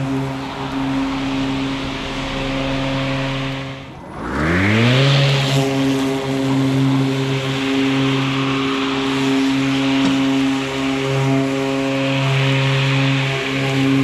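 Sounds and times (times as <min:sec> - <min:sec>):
lawn mower running: 0:00.0 - 0:14.0.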